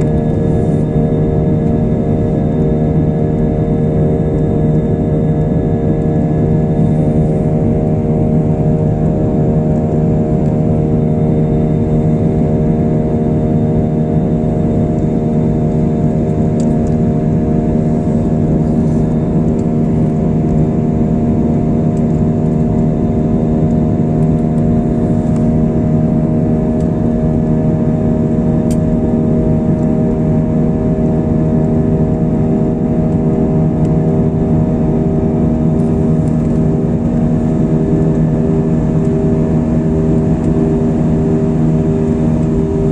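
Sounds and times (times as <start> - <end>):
jet engine drone in cabin: 0.0 - 42.9.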